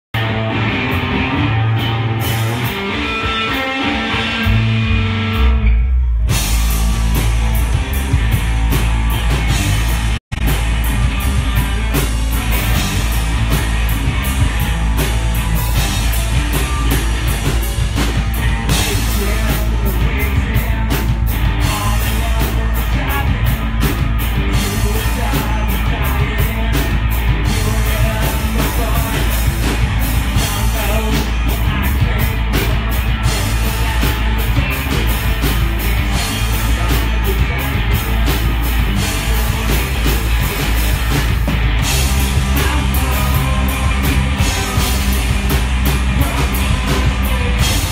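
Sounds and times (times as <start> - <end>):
bass guitar: 0.0 - 47.9
drum kit: 0.1 - 47.9
electric guitar: 0.2 - 47.9.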